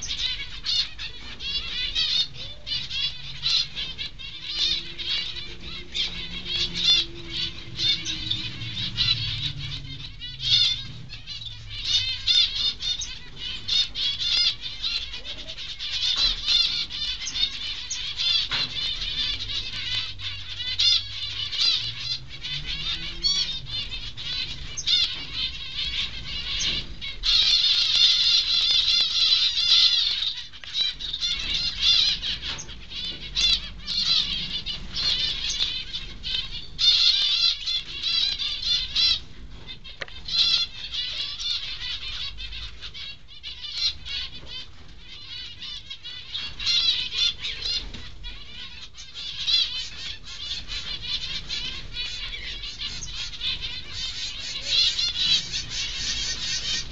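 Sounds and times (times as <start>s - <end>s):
finches chattering: 0.0s - 56.9s.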